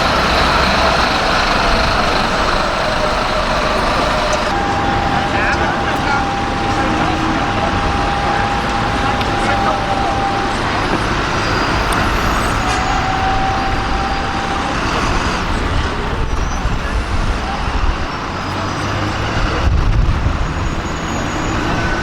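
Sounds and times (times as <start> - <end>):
traffic engines rumbling: 0.0 - 22.0.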